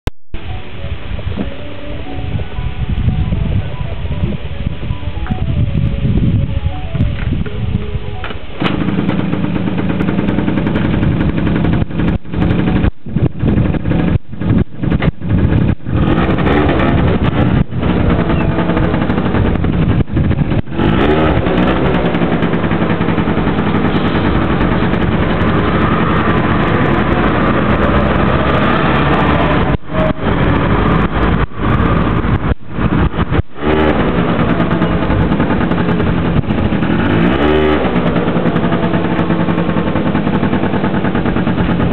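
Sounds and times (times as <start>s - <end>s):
scooter engine revving: 7.3s - 41.9s.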